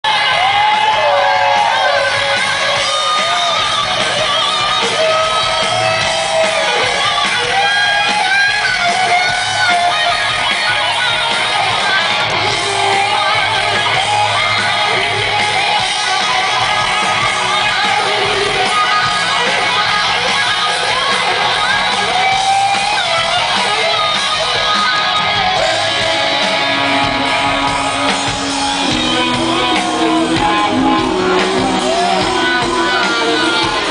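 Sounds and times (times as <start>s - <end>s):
electric guitar solo: 0.1s - 33.9s.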